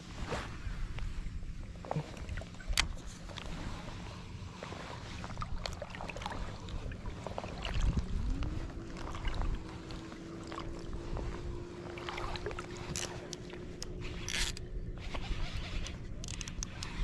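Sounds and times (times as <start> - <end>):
water sloshing and splashing: 0.1 - 17.0
distant outboard motor: 0.5 - 17.0.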